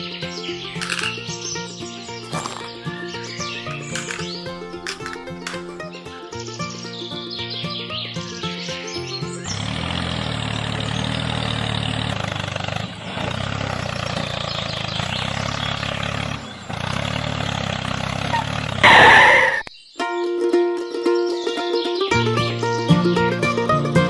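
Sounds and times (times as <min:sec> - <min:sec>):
small engine running: 0:00.0 - 0:19.6.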